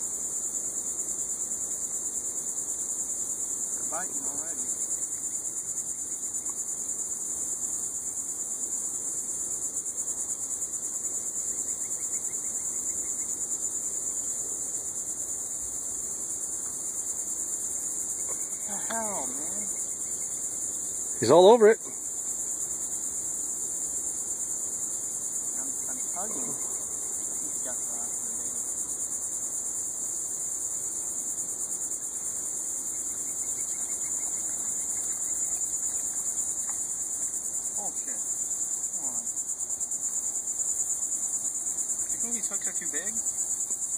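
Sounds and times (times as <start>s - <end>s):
high-pitched insect chorus: 0.0s - 43.9s.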